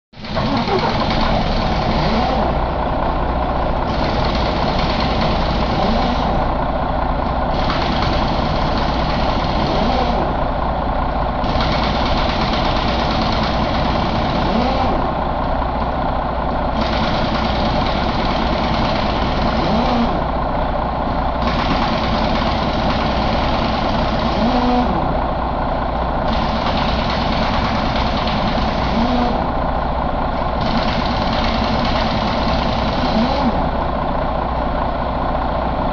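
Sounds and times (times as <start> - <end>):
diesel engine idling: 0.2 - 35.9.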